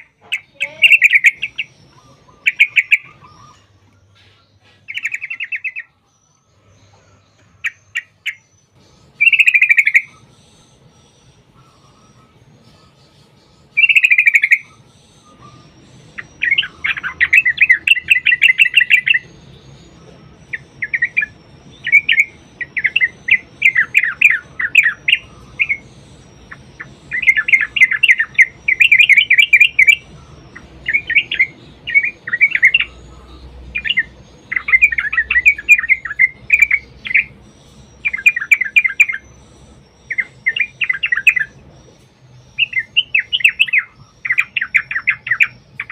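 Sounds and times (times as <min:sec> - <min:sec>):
bird bubbly chattering song: 0:00.0 - 0:05.9, 0:07.4 - 0:45.9.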